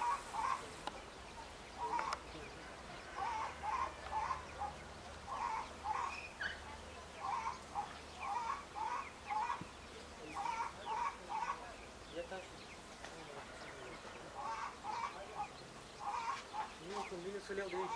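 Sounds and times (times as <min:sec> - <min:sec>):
bird calling: 0:00.0 - 0:17.9.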